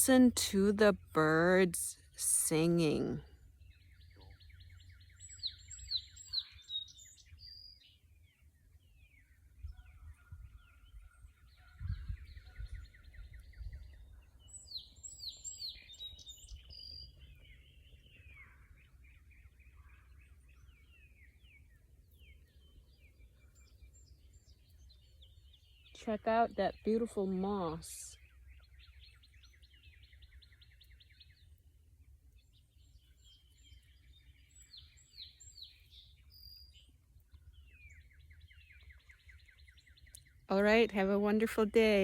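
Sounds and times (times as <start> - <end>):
songbirds singing: 0.0 - 42.0.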